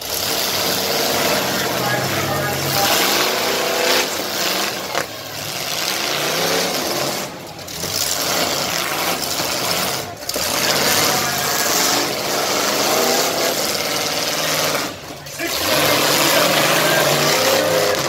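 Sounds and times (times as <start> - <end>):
car and truck engines revving: 0.0 - 18.0.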